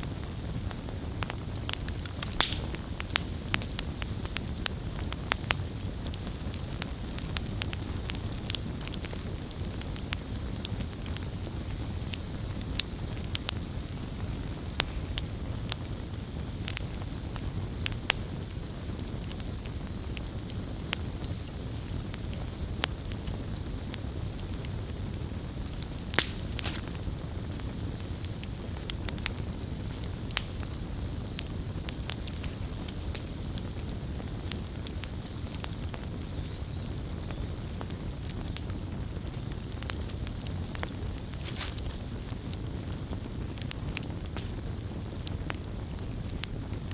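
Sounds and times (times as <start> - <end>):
campfire flames rumbling: 0.0 - 46.9
fire crackles and pops: 0.0 - 46.9.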